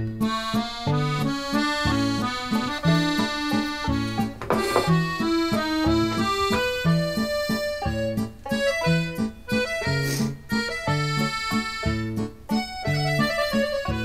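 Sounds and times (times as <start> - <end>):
comical solo accordion tune: 0.2 - 14.0.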